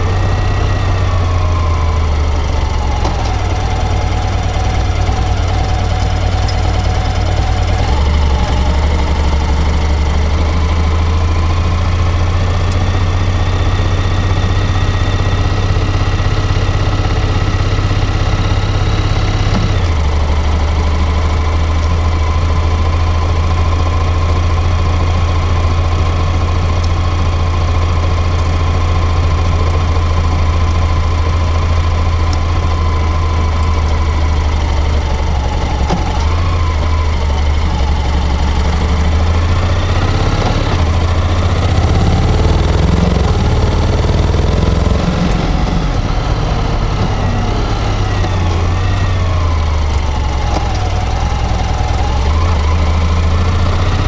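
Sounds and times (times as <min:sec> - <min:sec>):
motorcycle engine hum: 0:00.0 - 0:54.0
transmission whine: 0:00.0 - 0:54.0.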